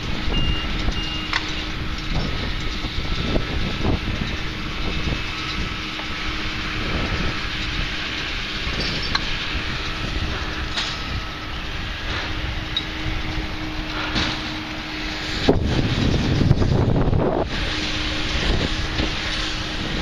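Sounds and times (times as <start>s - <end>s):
faint engine hum: 0.0s - 20.0s
vehicle rumble and wind noise: 0.0s - 20.0s.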